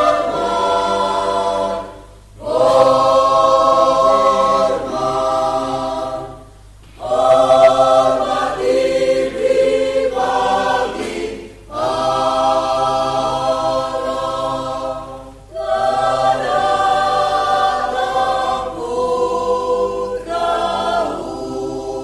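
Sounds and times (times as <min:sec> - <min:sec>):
mixed choir singing a hymn: 0:00.0 - 0:22.0.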